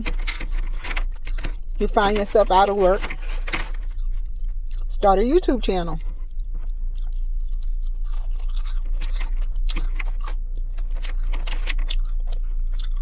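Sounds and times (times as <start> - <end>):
chewing crunchy food: 0.0 - 2.4, 3.8 - 5.0, 6.0 - 13.0.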